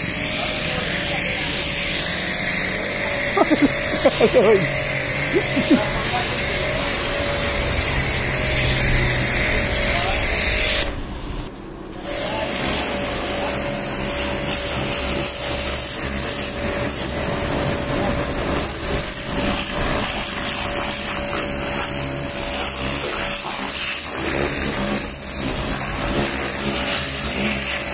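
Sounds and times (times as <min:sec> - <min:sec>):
water jet spraying: 0:00.0 - 0:11.2, 0:12.0 - 0:27.9
pressure washer motor whining: 0:00.0 - 0:27.9.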